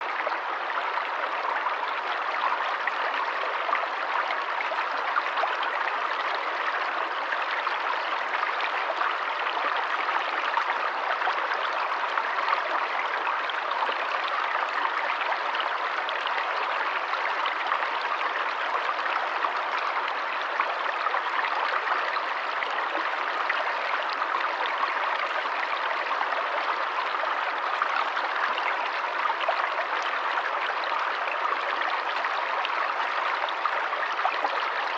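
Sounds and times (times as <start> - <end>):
stream flowing water: 0.0 - 34.9.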